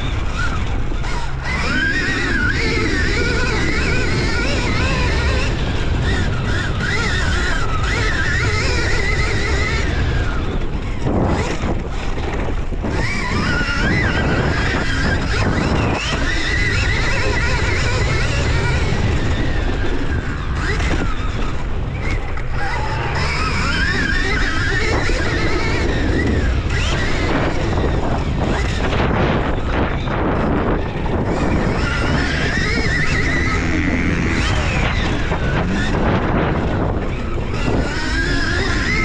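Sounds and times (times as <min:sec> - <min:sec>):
dirt bike engine: 0:00.0 - 0:39.0
engine whine: 0:00.0 - 0:39.0
wind buffeting microphone: 0:00.0 - 0:39.0.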